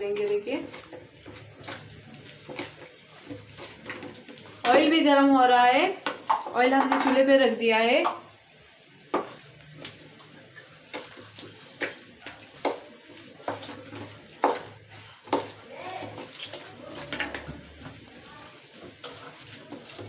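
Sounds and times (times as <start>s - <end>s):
batter being stirred by hand: 0.0s - 20.0s.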